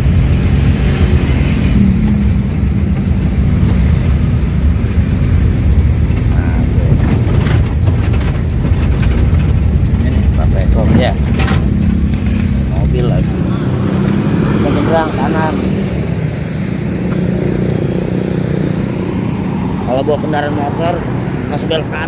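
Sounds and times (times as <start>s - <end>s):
minibus engine and road rumble: 0.0s - 22.0s.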